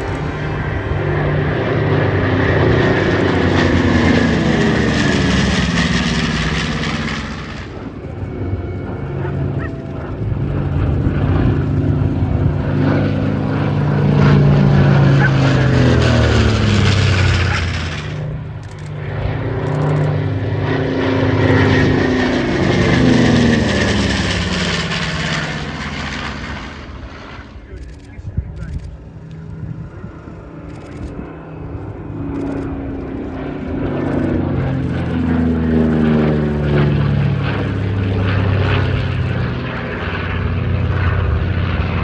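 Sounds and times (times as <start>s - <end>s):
propeller planes flying past: 0.0s - 42.0s.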